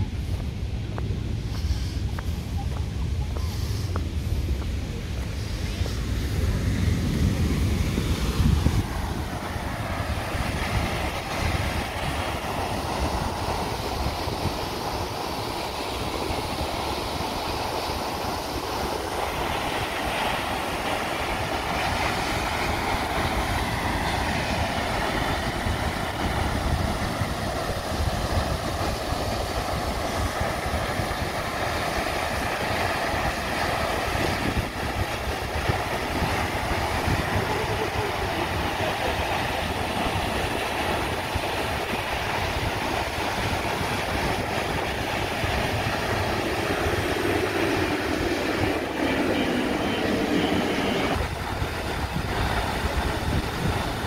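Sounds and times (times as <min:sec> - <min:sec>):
waterfall rushing: 0:02.8 - 0:54.0.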